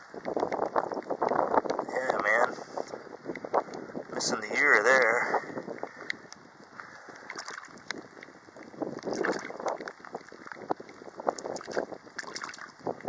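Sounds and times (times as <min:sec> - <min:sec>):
raindrops tapping: 0:00.0 - 0:13.0
wind on microphone: 0:00.0 - 0:13.0.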